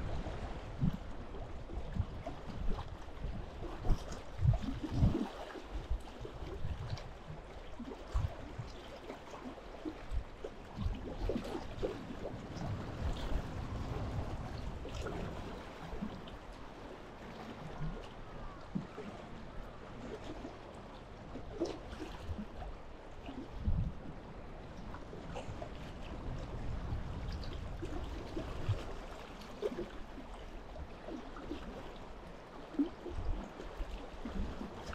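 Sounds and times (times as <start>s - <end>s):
water lapping against shore: 0.0s - 34.9s
wind rumbling on microphone: 0.0s - 34.9s.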